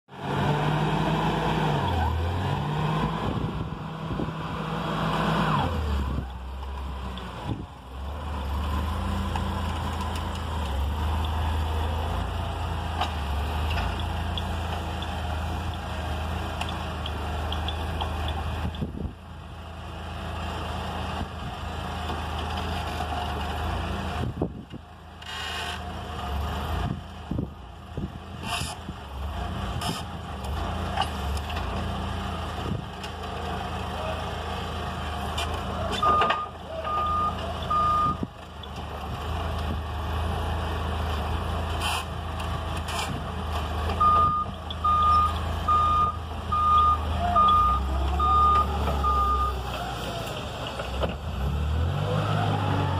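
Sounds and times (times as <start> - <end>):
forklift engine running: 0.1 - 52.9.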